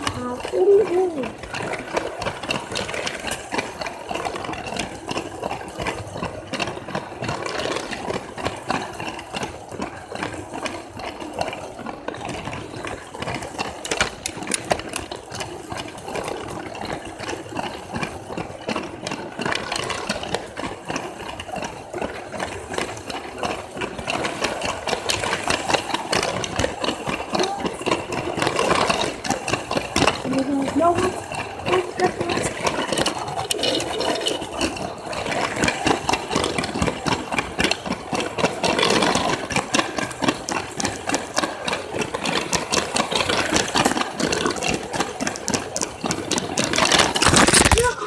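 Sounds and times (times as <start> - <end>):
wheels clicking on toy track: 0.0 - 48.0.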